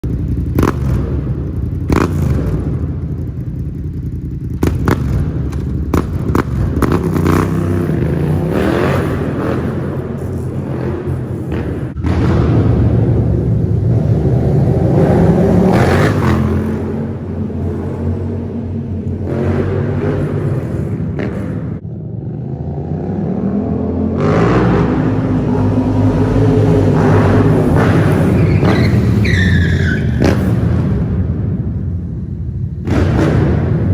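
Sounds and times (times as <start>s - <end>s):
vehicle engine rumbling and revving: 0.0s - 33.9s.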